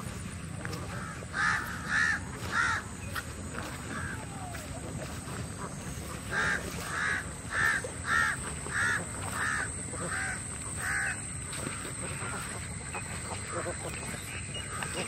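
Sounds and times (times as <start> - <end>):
bird calling: 0.6 - 15.0.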